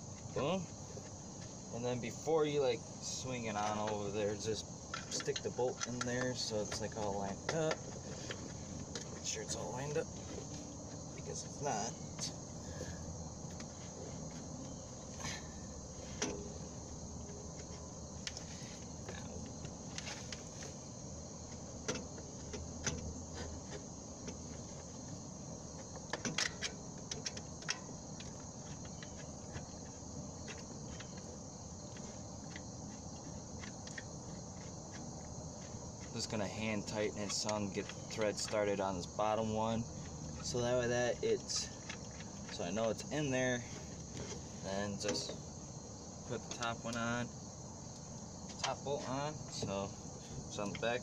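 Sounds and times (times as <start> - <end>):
crickets chirring: 0.0 - 51.0.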